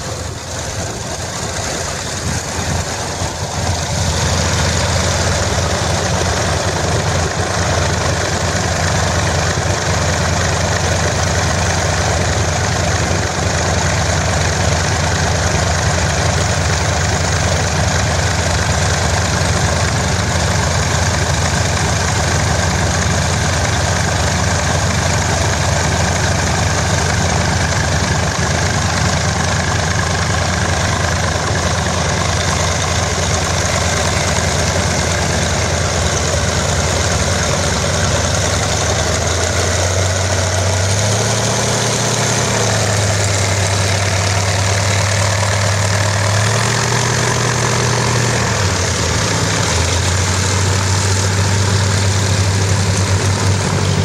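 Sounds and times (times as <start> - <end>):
small radial engine running: 0.0 - 54.0.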